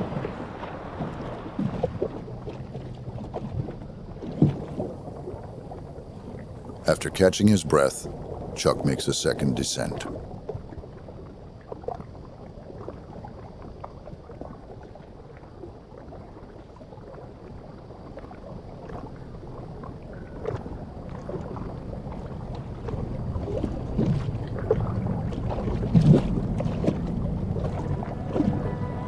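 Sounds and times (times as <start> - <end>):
low underwater rumble and hiss: 0.0 - 10.0, 11.0 - 29.0.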